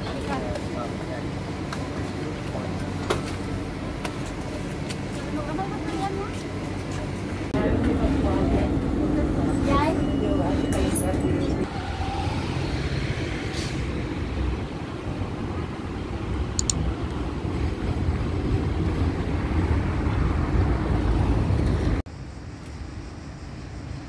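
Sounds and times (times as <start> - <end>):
quiet street background: 0.0 - 24.0
tram rumbling: 0.0 - 24.0
cars passing: 2.7 - 22.0.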